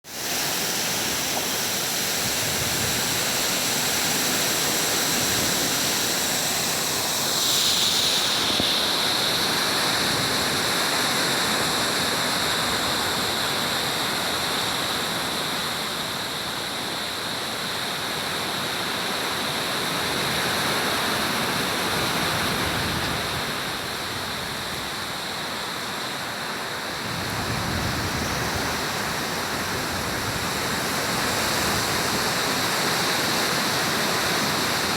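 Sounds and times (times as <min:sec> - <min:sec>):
heavy rain in strong wind: 0:00.0 - 0:34.9.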